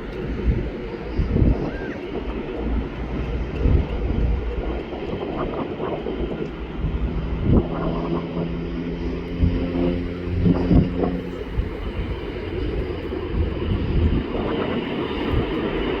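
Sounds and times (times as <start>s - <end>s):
low engine rumble: 0.0s - 16.0s
steady droning hum: 0.0s - 16.0s.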